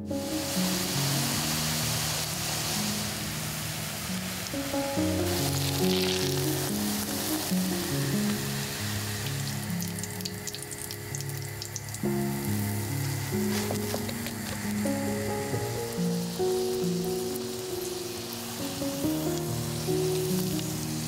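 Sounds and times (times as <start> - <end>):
gentle background music: 0.0 - 21.0
food sizzling in hot oil: 0.1 - 21.0.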